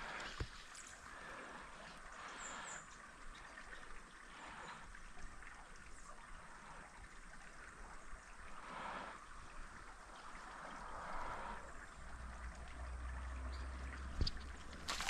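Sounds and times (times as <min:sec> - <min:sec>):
stream trickling faintly: 0:00.0 - 0:15.0.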